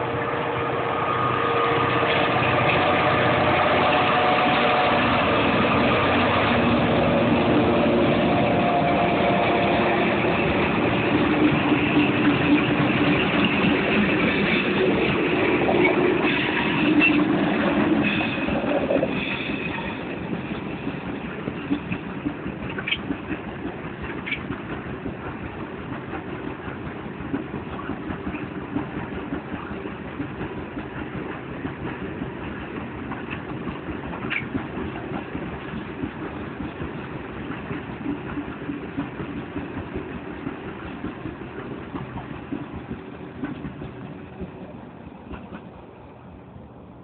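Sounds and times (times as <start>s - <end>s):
wagon wheels rumbling on rails: 1.8s - 46.6s.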